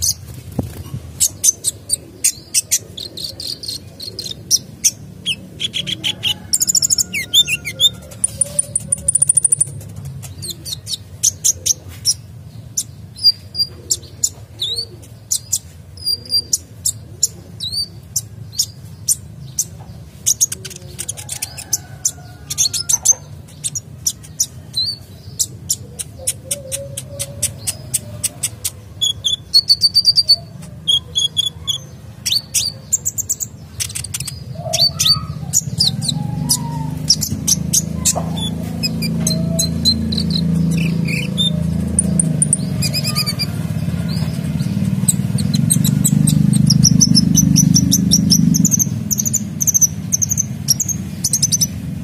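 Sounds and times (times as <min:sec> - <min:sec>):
bird chirping and trilling: 0:00.0 - 0:52.0.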